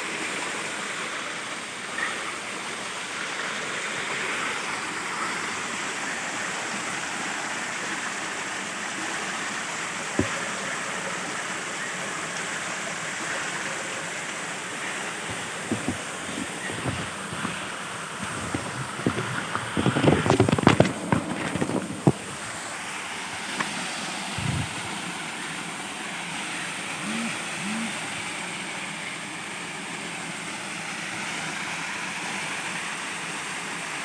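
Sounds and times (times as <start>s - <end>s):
waterfall rushing: 0.0s - 30.4s.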